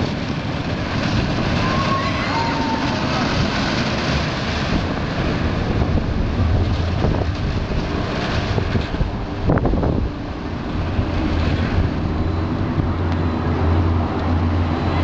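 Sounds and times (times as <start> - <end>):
roller coaster train on track: 0.0 - 15.0
wind buffeting microphone: 0.0 - 15.0.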